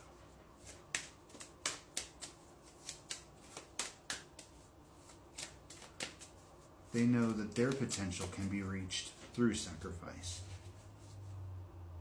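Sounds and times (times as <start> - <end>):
cards being shuffled: 0.6 - 11.3.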